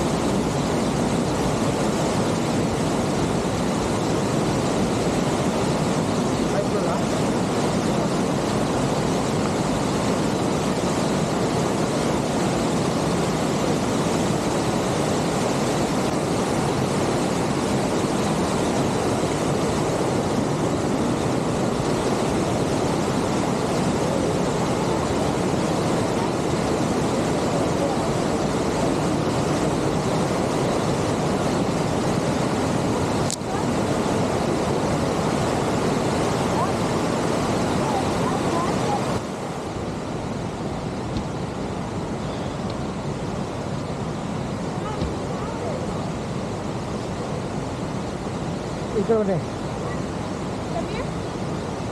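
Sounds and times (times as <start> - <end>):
creek rushing over rocks: 0.0 - 51.9.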